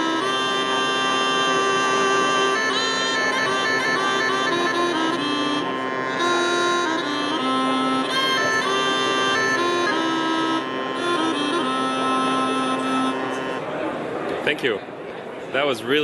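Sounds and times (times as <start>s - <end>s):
held drone note: 0.0s - 13.7s
reedy wind instrument melody: 0.0s - 13.9s.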